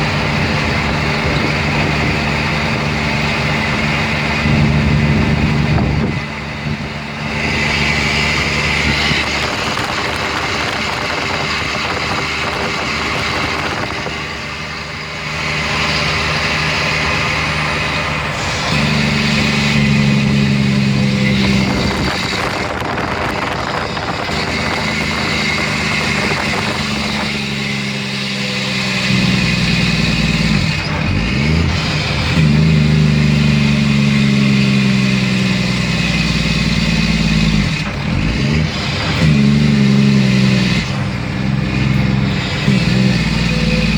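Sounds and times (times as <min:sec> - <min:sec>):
diesel truck engine driving: 0:00.0 - 0:43.9.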